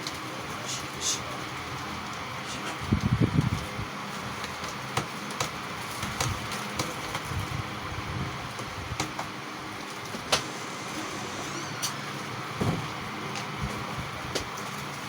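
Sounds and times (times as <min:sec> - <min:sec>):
steady hiss and hum: 0:00.0 - 0:15.0.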